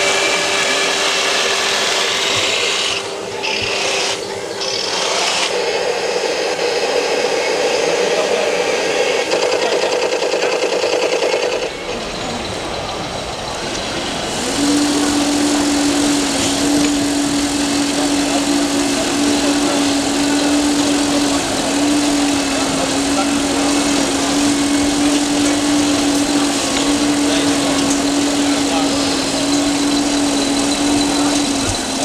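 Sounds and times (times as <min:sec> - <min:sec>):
small electric motor buzzing: 0:00.0 - 0:09.8, 0:14.3 - 0:32.0
busy hall noise: 0:00.0 - 0:32.0
model vehicles mechanical hum: 0:00.0 - 0:32.0
low engine-like tone: 0:05.6 - 0:32.0.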